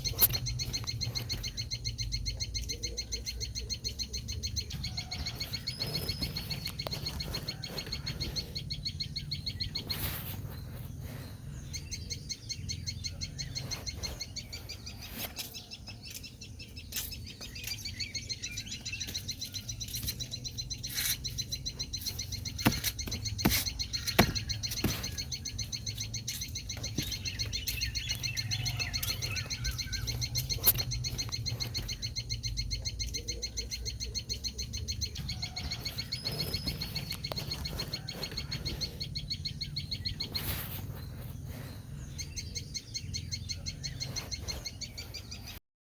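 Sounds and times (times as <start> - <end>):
bird chicks chirping: 0.0 - 45.6.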